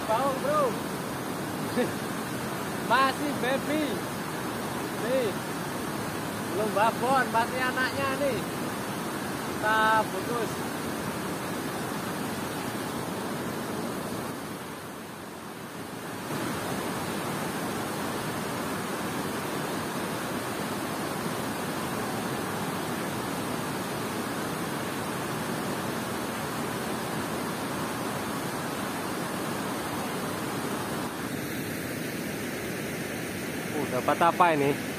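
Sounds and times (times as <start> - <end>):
water rushing over a spillway: 0.0 - 34.9.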